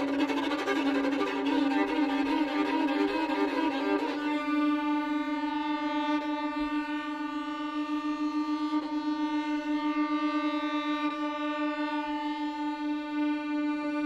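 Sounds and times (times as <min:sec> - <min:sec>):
violin: 0:00.0 - 0:14.0.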